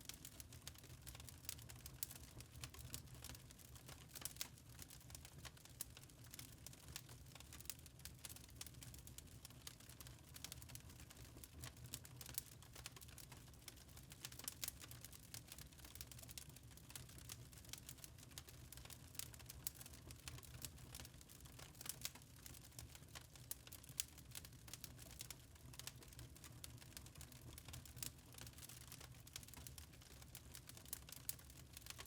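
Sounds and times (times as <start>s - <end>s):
fire crackling in fireplace: 0.0s - 32.0s.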